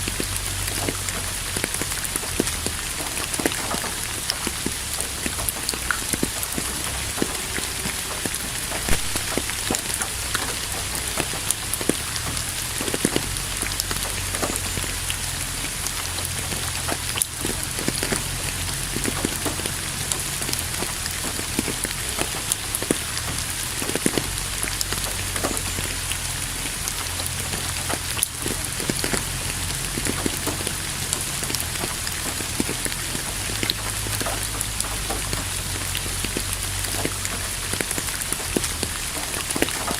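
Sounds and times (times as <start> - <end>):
close raindrops striking: 0.0 - 39.9
rain falling on a surface: 0.0 - 39.9.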